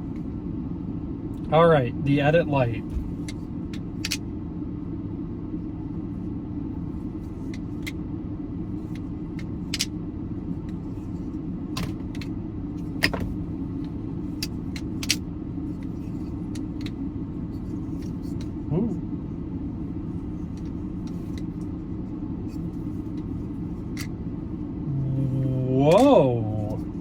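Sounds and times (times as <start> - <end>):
low rumble inside car: 0.0 - 27.0.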